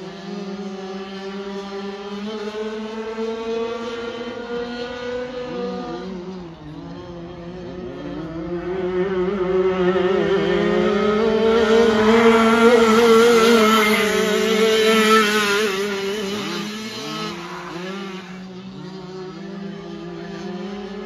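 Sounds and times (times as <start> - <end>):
kart engines racing at high revs: 0.0 - 21.0
kart passing close: 0.0 - 21.0.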